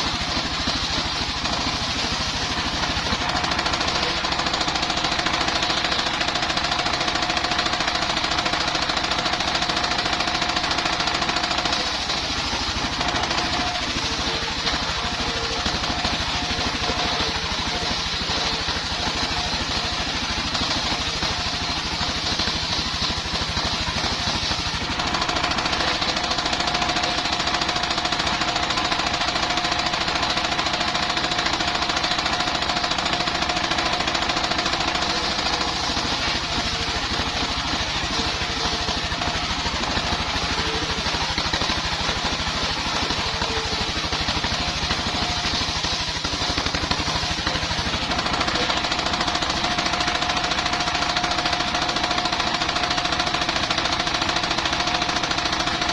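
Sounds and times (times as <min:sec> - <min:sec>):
circular saw sawing wood: 0:00.0 - 0:28.3, 0:28.9 - 0:51.8
fast knocking engine beat: 0:00.0 - 0:55.9.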